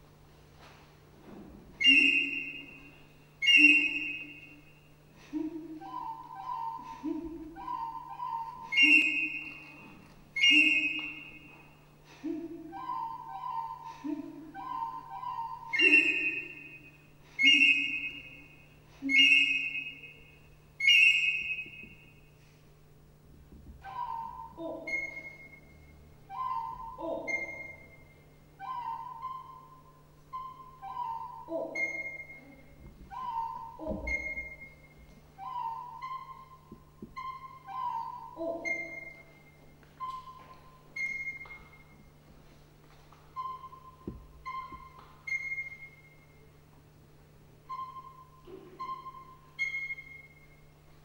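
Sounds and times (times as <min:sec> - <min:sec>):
high whistling notes: 0:01.8 - 0:04.8, 0:05.8 - 0:11.7, 0:12.8 - 0:14.0, 0:14.6 - 0:22.2, 0:23.8 - 0:42.1, 0:43.3 - 0:46.6, 0:47.6 - 0:50.8.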